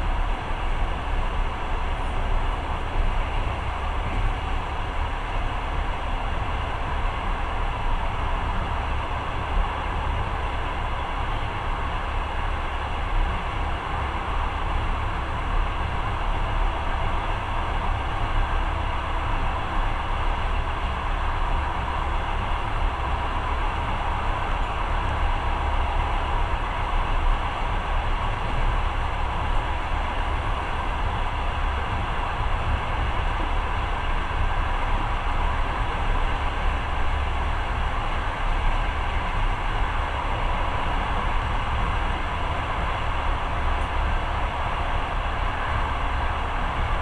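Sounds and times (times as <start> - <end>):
steady rushing noise: 0.0 - 47.0
train rumbling: 0.0 - 47.0.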